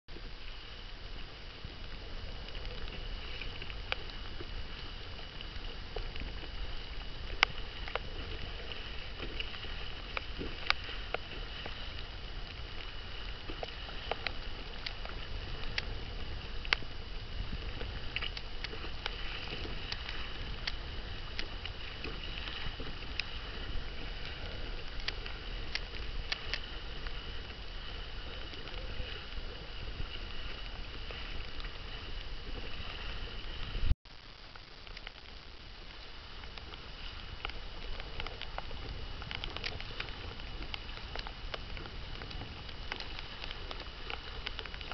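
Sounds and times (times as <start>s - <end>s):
water splashing along hull: 0.1s - 44.9s
wind on microphone: 0.1s - 44.9s.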